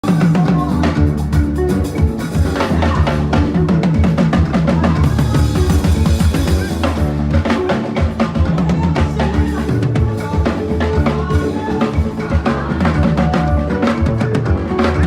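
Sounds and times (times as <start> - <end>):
drum kit played fast: 0.0 - 15.0
held bass line: 0.0 - 15.0.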